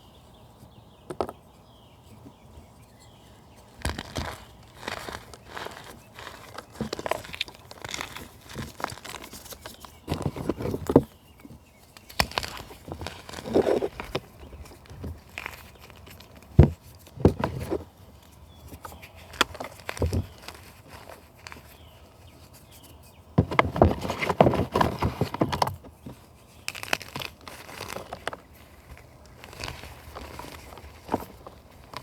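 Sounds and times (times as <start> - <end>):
crunching and crackling material: 2.9 - 32.0.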